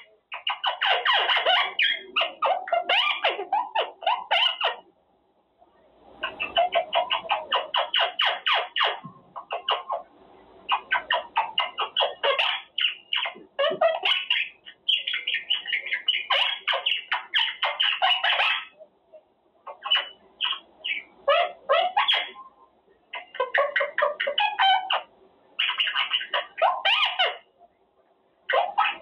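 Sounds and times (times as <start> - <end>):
parrot squawking: 0.3 - 4.9, 6.2 - 10.1, 10.7 - 18.8, 19.6 - 22.5, 23.1 - 27.5, 28.5 - 29.0.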